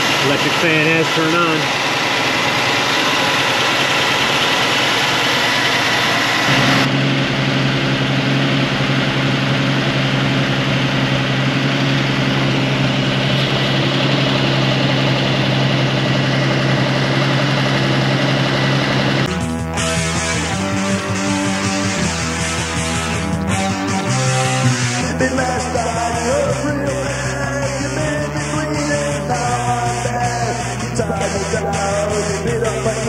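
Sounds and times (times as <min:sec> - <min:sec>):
engine idling: 0:00.0 - 0:33.0
radiator cooling fan rushing: 0:00.0 - 0:33.0.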